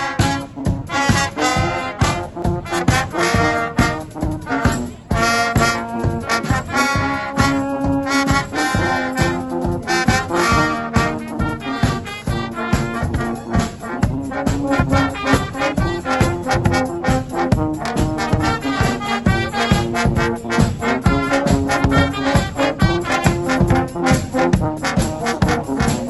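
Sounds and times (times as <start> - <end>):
bass drum and snare beat: 0.0 - 26.0
brass band playing a tune: 0.0 - 26.0.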